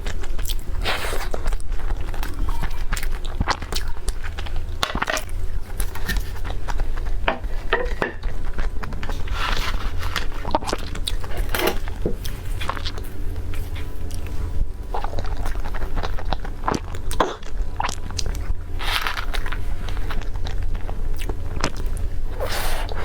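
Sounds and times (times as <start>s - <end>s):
crunchy biting and chewing: 0.0s - 23.0s
steady low hum: 0.0s - 23.0s.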